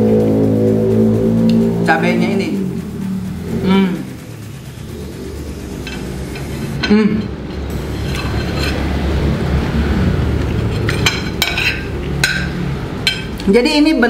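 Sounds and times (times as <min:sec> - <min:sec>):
low rumble: 0:00.0 - 0:13.6.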